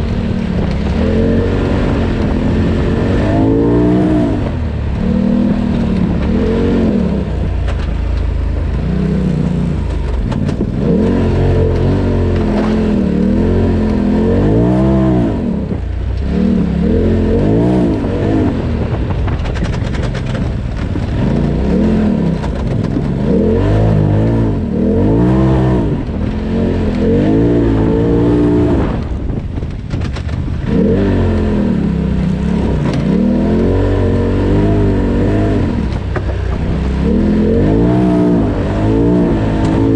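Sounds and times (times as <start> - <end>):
turbocharged engine revving: 0.0 - 39.9.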